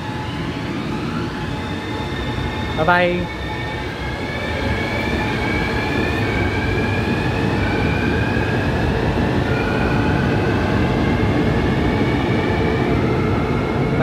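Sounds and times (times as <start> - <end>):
train traction motors whining: 0.0 - 14.0
wheels rumbling on rail: 0.0 - 14.0.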